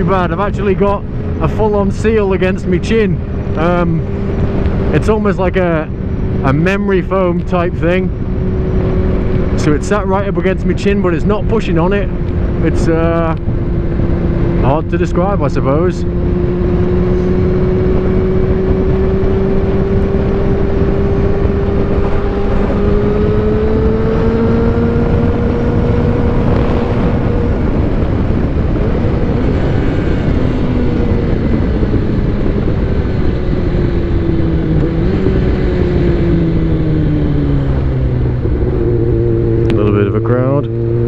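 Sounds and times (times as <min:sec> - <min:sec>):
motorcycle engine running: 0:00.0 - 0:41.0
wind rush on microphone: 0:00.0 - 0:41.0.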